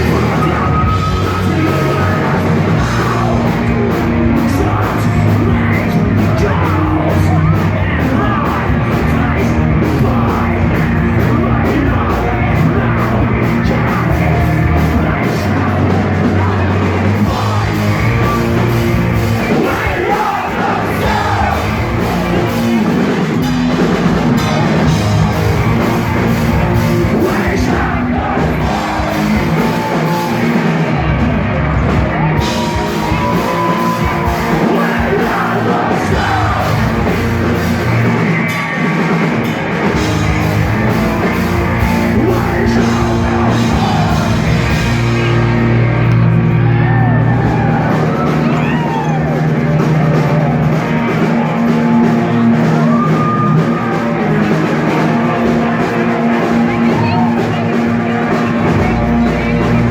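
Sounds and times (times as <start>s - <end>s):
drum kit: 0.0s - 59.9s
loud live rock music: 0.0s - 59.9s
person singing: 0.0s - 59.9s.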